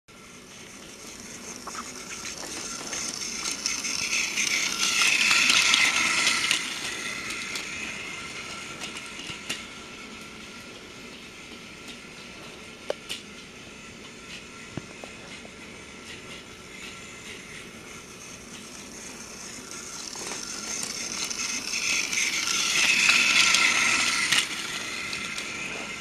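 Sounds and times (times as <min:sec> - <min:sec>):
toy train motor whirring: 0:00.1 - 0:26.0.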